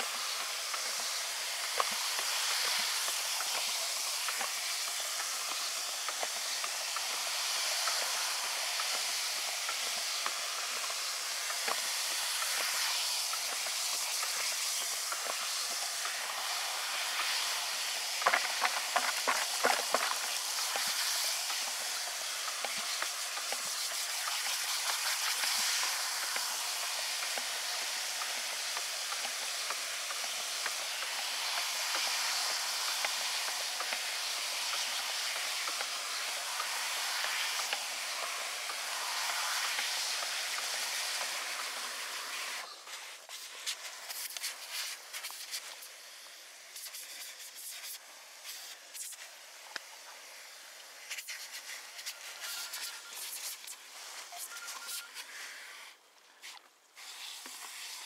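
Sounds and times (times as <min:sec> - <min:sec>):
foam hissing: 0:00.0 - 0:58.0.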